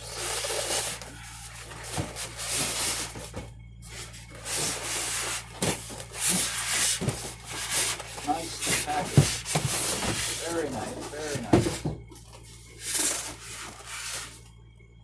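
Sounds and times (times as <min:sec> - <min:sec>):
cardboard box rubbing and scraping: 0:00.0 - 0:11.9, 0:12.6 - 0:14.4.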